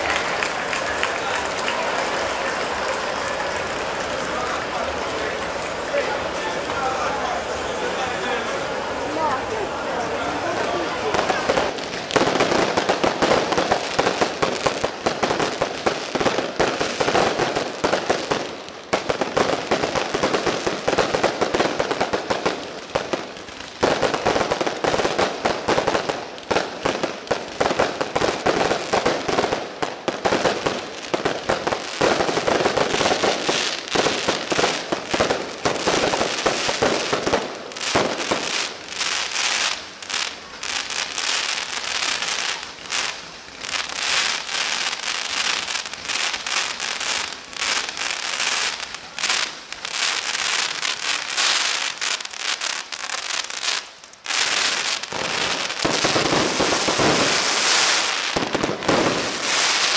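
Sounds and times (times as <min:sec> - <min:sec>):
fireworks crackling and popping: 0:00.0 - 0:59.9.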